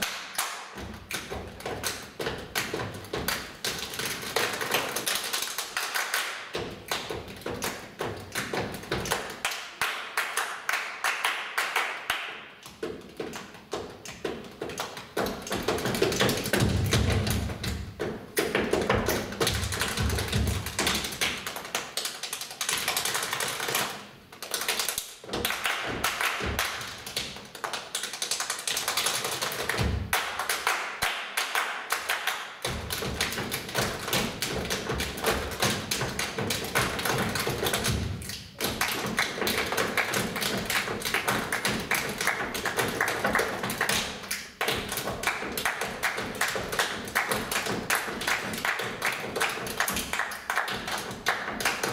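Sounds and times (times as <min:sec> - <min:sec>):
hand claps and body slaps: 0:00.0 - 0:51.9.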